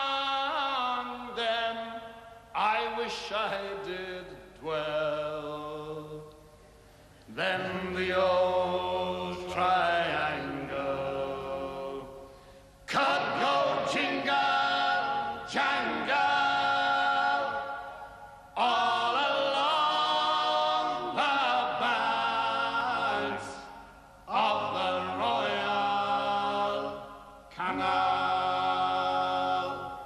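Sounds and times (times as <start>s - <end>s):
unaccompanied voices singing ballad: 0.0s - 2.0s, 2.6s - 6.5s, 7.3s - 30.0s.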